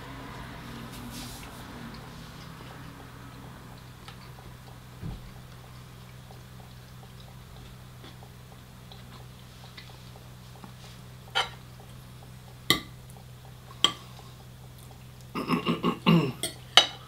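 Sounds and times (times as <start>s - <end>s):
steady low hum: 0.0s - 17.0s
eating sounds: 0.1s - 17.0s.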